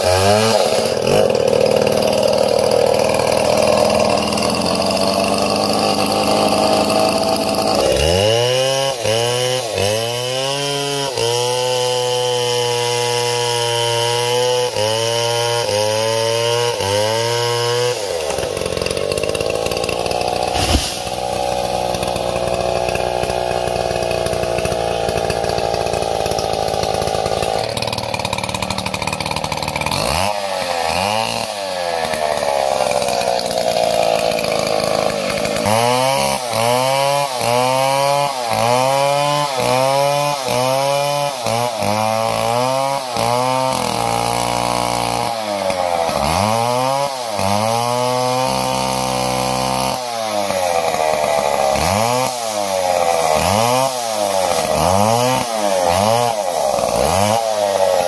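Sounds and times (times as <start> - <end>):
chainsaw revving and cutting: 0.0 - 58.0.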